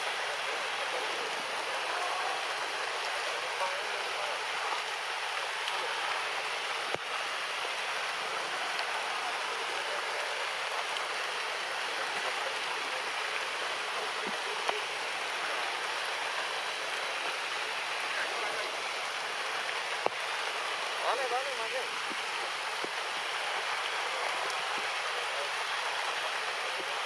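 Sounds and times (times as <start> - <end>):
steady rain hiss: 0.0 - 27.0.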